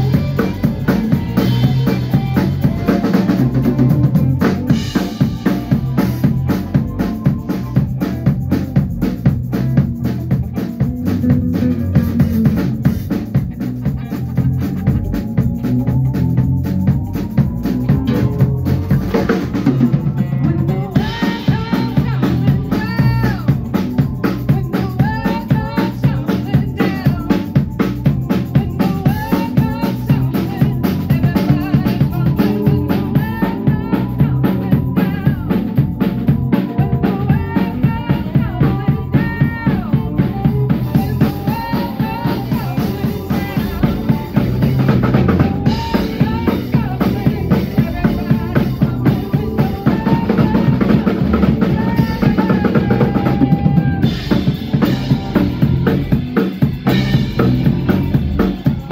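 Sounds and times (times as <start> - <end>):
drum kit beat: 0.0 - 58.9
sliding lead melody: 0.0 - 58.9.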